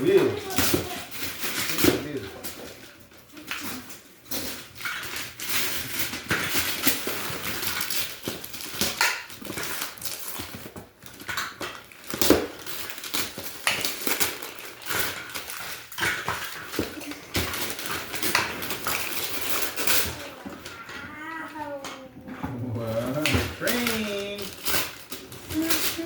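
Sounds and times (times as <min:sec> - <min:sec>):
wrapping paper tearing and crumpling: 0:00.0 - 0:21.4, 0:22.8 - 0:26.0.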